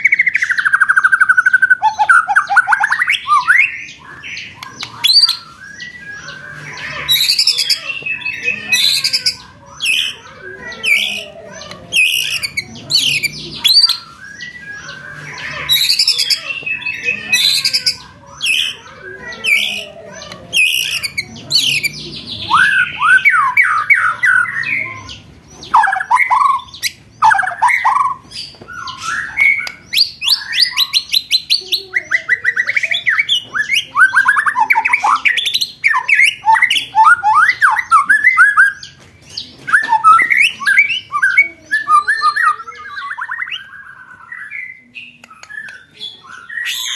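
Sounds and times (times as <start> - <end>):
harsh scratchy bird chattering: 0.0 - 46.9
songbird trills and whistles: 0.0 - 46.9.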